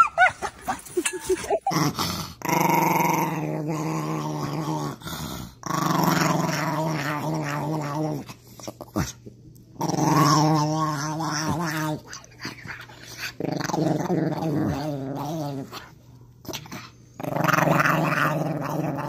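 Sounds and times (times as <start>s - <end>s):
small dog growling: 1.6s - 19.0s.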